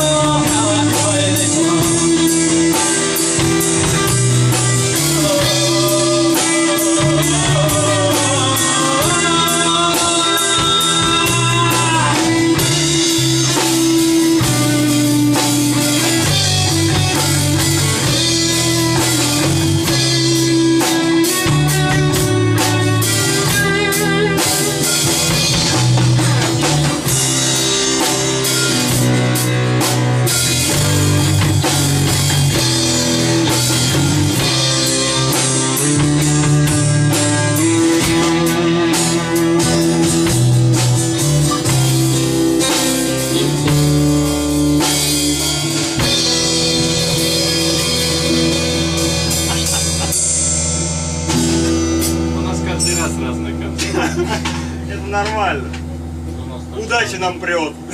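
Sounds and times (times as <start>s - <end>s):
bending lead guitar melody: 0.0s - 57.9s
rock band playing: 0.0s - 57.9s.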